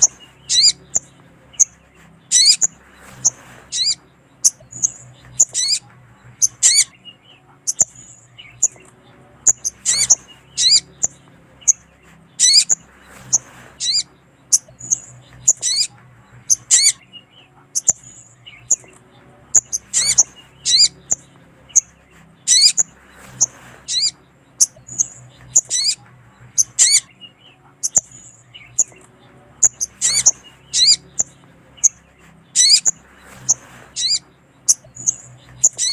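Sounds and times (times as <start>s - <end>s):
bird sharp high chirps: 0.0s - 35.9s
faint low hum: 0.0s - 35.9s.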